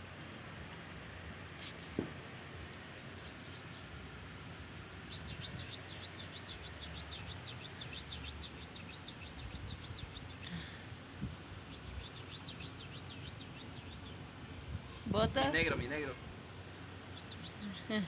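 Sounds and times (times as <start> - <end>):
small birds chirping: 1.2 - 18.0.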